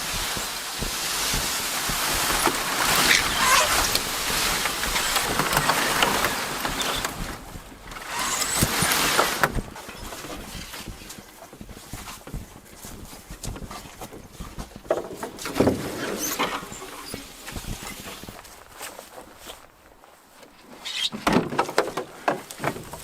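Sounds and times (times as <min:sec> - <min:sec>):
footsteps on bush trail: 0:00.0 - 0:21.1
brush rustling and crackling: 0:00.0 - 0:23.0.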